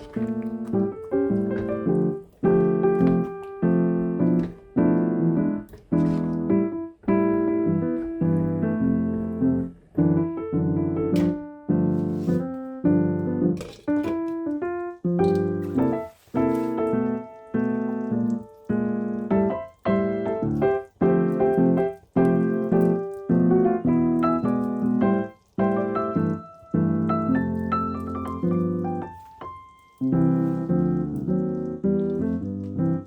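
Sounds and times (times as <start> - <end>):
gentle piano chords: 0.0 - 33.0.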